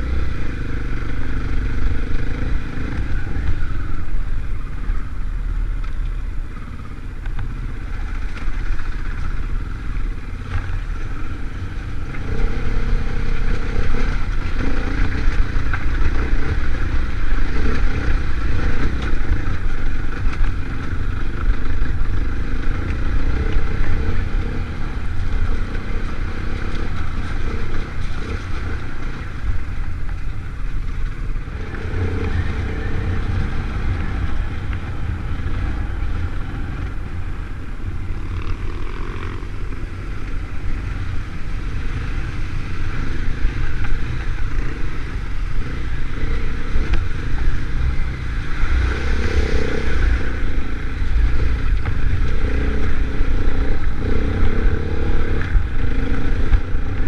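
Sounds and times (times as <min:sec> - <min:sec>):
off-road motorcycle engine revving: 0:00.0 - 0:57.0.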